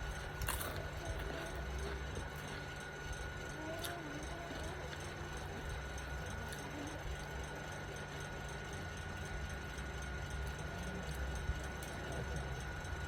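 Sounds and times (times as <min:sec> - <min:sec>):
steady low machine hum: 0:00.0 - 0:13.0.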